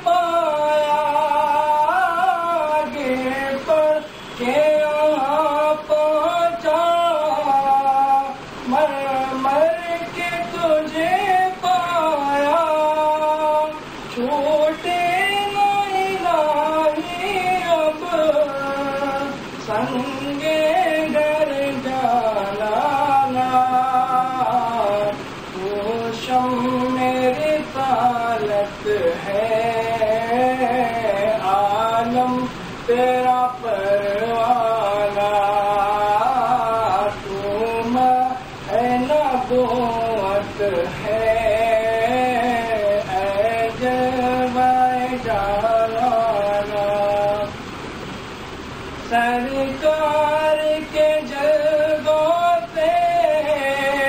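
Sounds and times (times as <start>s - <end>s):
man singing into a microphone: 0.0s - 47.7s, 48.6s - 54.0s.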